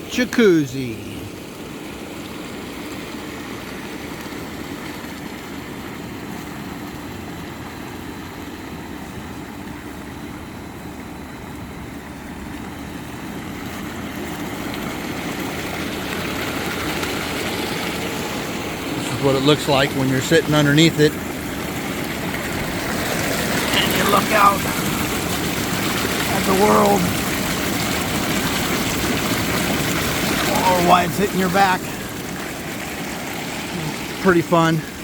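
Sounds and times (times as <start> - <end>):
water splashing into hot tub: 0.0 - 35.0.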